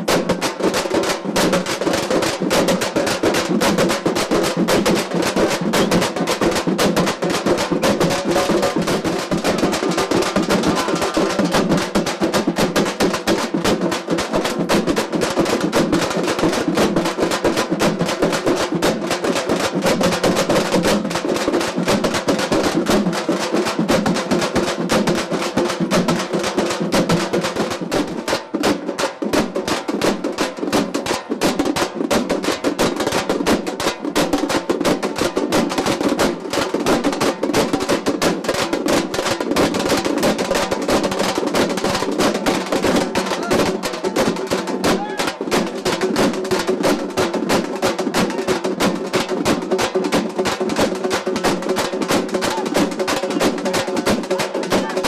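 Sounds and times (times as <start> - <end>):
large drums beaten with sticks: 0.0 - 55.0.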